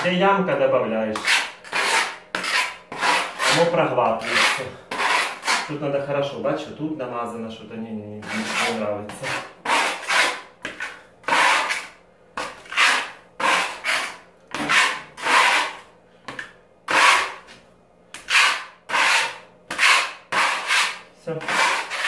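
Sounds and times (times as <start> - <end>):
putty knife scraping plaster wall: 1.1 - 5.8, 8.2 - 22.0.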